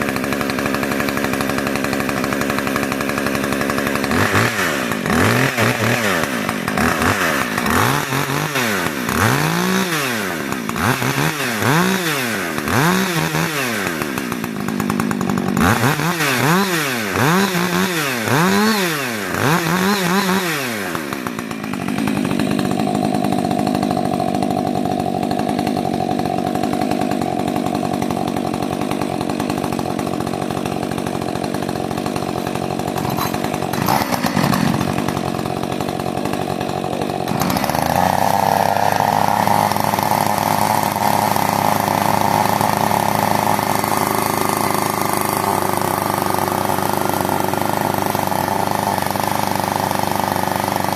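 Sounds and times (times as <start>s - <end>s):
chainsaw revving: 0.0s - 50.9s.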